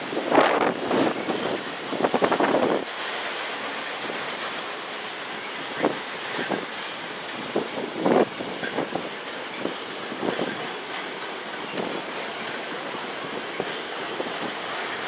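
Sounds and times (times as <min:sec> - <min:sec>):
train cars rolling rattle: 0:00.0 - 0:15.0
train wheels clacking: 0:00.0 - 0:15.0.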